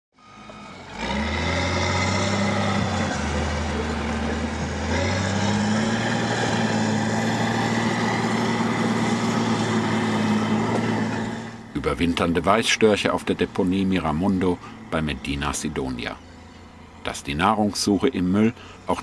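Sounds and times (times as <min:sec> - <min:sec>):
heavy vehicle engine running: 0:00.1 - 0:19.0.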